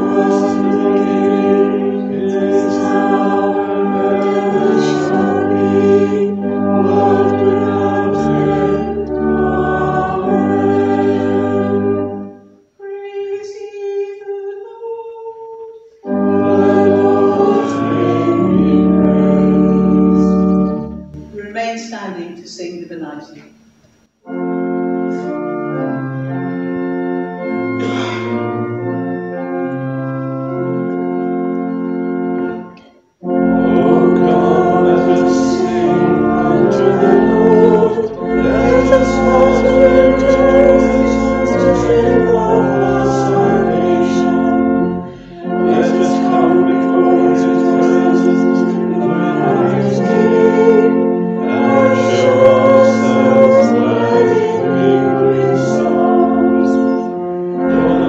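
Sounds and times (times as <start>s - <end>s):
church organ playing chords: 0.0s - 14.8s, 15.8s - 21.5s, 23.6s - 58.0s
congregation singing: 0.0s - 21.3s, 24.2s - 58.0s.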